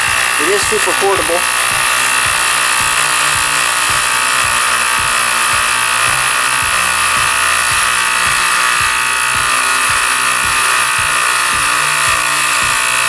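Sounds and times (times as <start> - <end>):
electric tire inflator running: 0.0 - 13.0.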